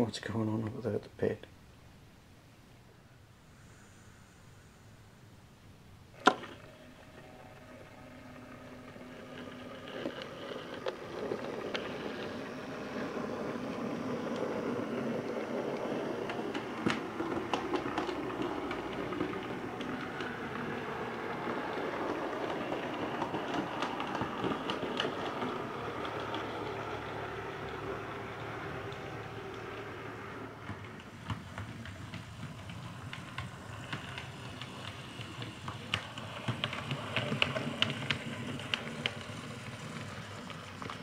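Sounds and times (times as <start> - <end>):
model train running on track: 6.2 - 41.0
wheels clicking over rail joints: 6.2 - 41.0.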